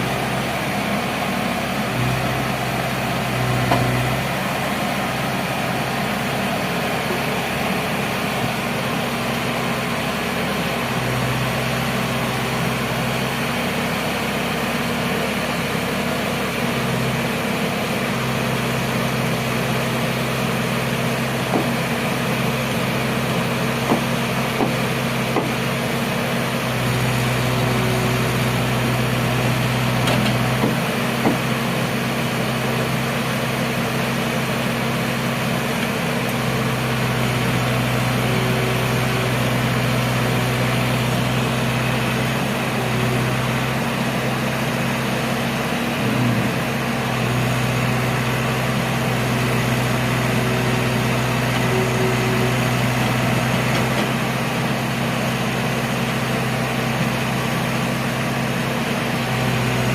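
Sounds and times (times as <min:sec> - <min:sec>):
construction machine engine humming: 0:00.0 - 0:59.9.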